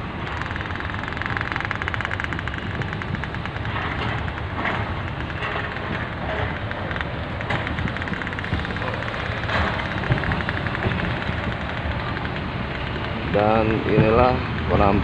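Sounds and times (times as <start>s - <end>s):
locomotive diesel engine running: 0.0s - 15.0s.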